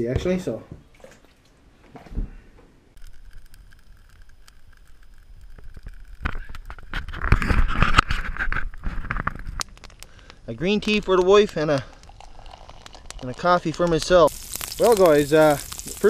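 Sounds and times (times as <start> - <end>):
campfire crackling and popping: 2.9 - 16.0.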